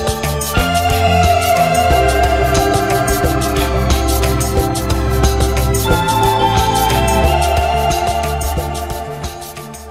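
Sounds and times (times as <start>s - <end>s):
music with steady beat: 0.0s - 9.9s.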